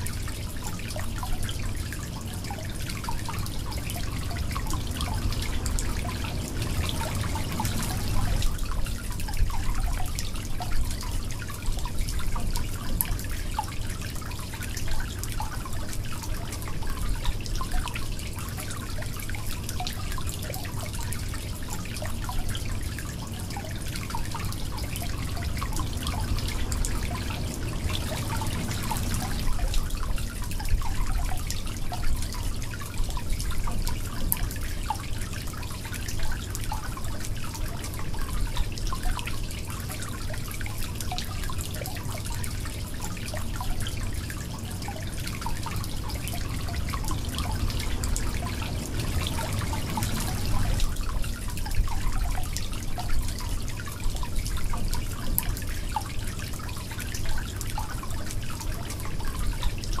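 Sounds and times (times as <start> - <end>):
stream babbling over pebbles: 0.0 - 60.0.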